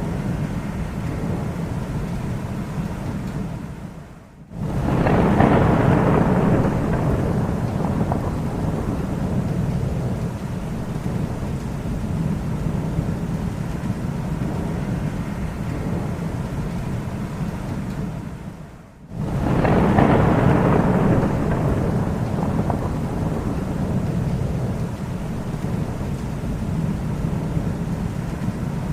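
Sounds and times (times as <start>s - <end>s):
thunder rumbling: 0.0s - 28.9s.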